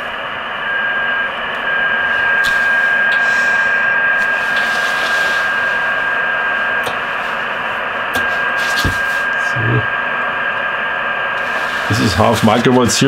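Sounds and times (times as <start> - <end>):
radio receiver hiss: 0.6 - 13.0.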